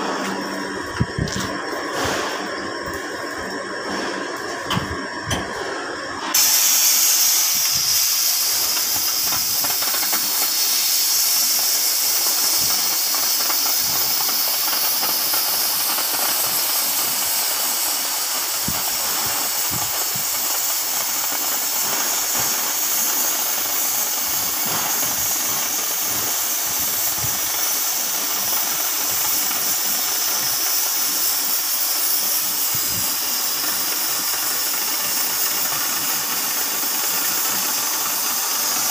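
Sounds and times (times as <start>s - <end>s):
cutting torch hissing: 0.0s - 38.9s.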